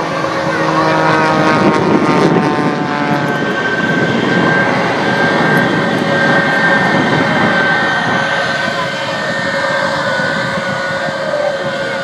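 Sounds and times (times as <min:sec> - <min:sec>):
aircraft engine rush with whine: 0:00.0 - 0:12.0.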